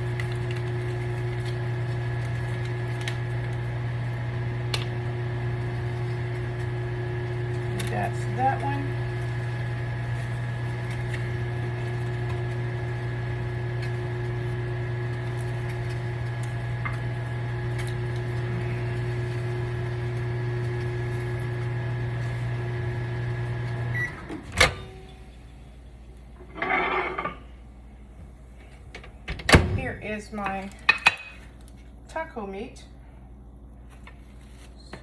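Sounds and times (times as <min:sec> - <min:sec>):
microwave oven humming: 0:00.0 - 0:35.0.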